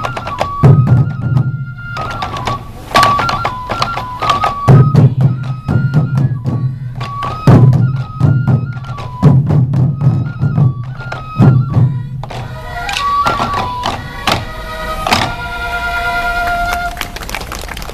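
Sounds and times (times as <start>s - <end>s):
taiko drums beaten together: 0.0s - 15.4s
bamboo flute melody: 0.0s - 17.7s.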